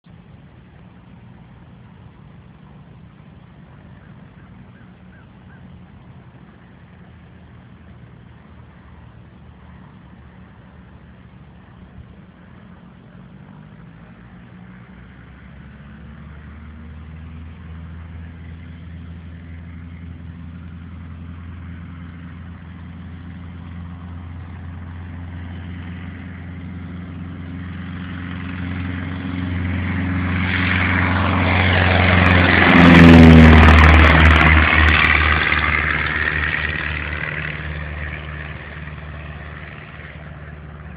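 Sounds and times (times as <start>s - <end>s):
propeller airplane engine: 0.0s - 40.9s.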